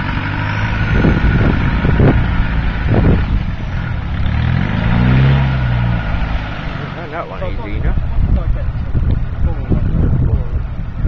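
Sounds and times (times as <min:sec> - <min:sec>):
truck engine revving: 0:00.0 - 0:11.0
water surging around wheels: 0:00.0 - 0:11.0.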